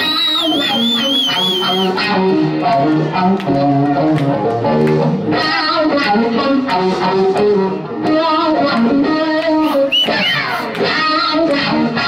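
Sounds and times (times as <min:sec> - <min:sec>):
bass guitar: 0:00.0 - 0:12.0
drums: 0:00.0 - 0:12.0
electric guitar lead: 0:00.0 - 0:12.0.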